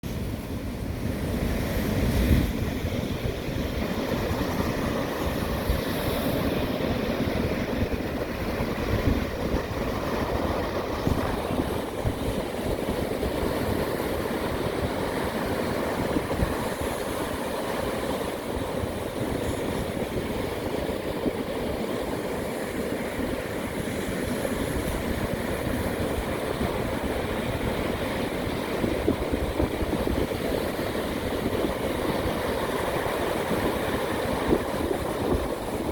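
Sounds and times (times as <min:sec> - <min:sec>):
sea surf rushing: 0:00.0 - 0:35.9
wind buffeting microphone: 0:00.1 - 0:35.9.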